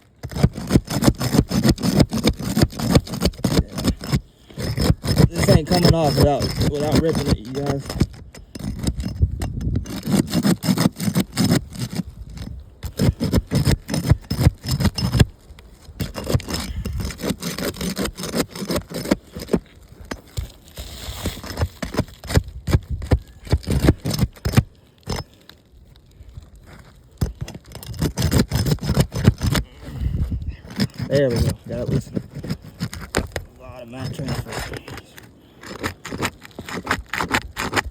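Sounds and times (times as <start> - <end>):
shingle tearing: 0.0 - 37.9
tool scraping asphalt shingle: 0.0 - 37.9.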